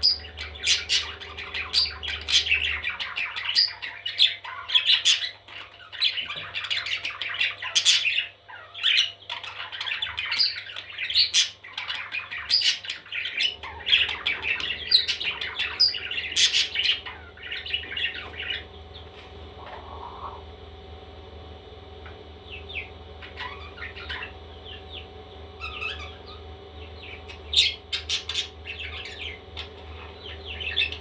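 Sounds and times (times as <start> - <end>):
baby parrots squawking: 0.0 - 18.6, 22.5 - 24.4, 25.6 - 26.4, 27.0 - 31.0.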